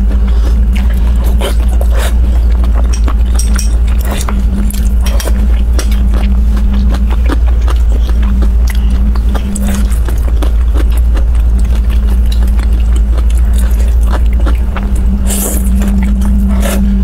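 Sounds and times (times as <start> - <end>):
chewing and mouth sounds: 0.0 - 17.0
low hum: 0.0 - 17.0.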